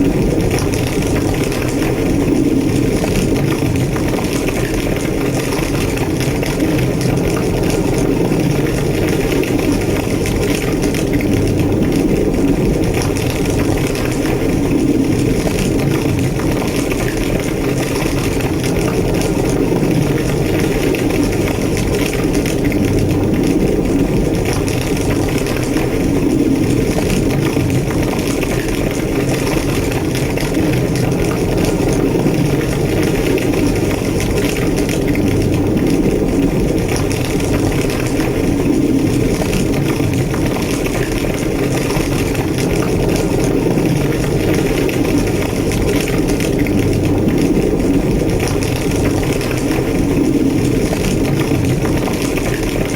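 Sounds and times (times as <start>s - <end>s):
large fire roaring and crackling: 0.0s - 52.9s.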